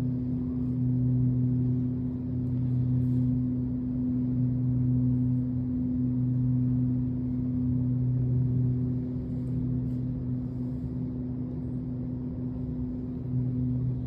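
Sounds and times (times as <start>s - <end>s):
low drone of deep tones: 0.0s - 14.0s.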